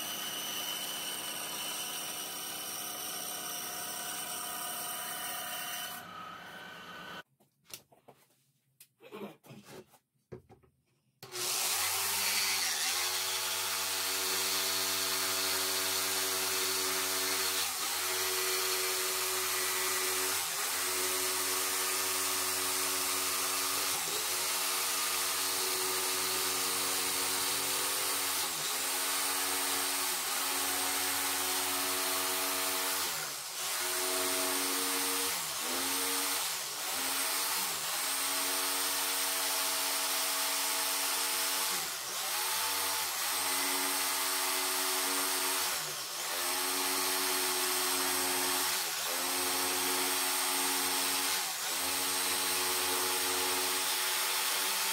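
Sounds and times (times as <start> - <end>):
jigsaw cutting wood: 0.0 - 7.2, 11.2 - 54.9.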